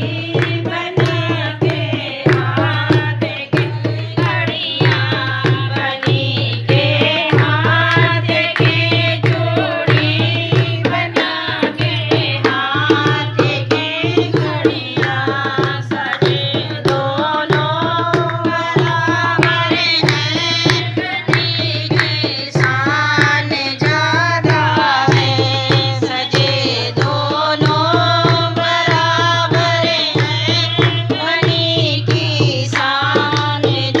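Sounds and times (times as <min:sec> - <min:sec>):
hand drum beating rhythm: 0:00.0 - 0:34.0
women singing folk song: 0:00.0 - 0:34.0.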